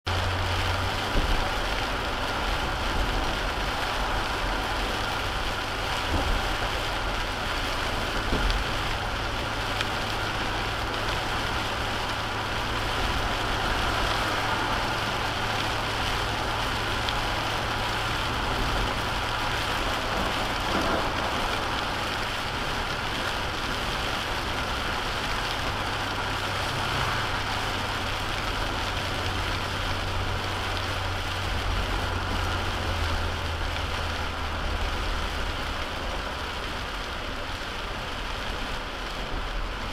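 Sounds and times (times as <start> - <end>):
rain pattering on car: 0.1 - 39.9
tyres hissing on wet road: 0.1 - 39.9.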